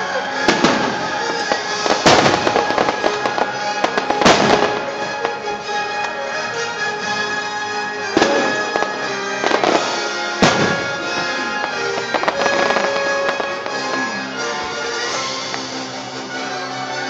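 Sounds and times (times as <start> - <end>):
fireworks bangs: 0.0 - 6.3, 8.0 - 16.0
music: 0.0 - 17.0.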